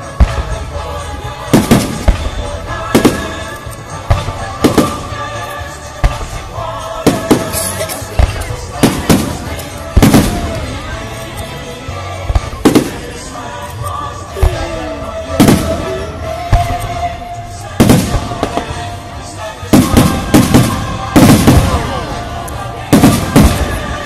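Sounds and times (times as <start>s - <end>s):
fireworks bursting with bangs: 0.0s - 24.0s
music playing: 0.0s - 24.0s.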